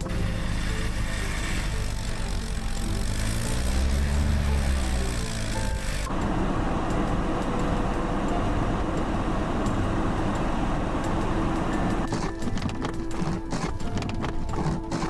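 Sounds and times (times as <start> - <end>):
motor vehicle engine rumble: 0.0 - 14.9.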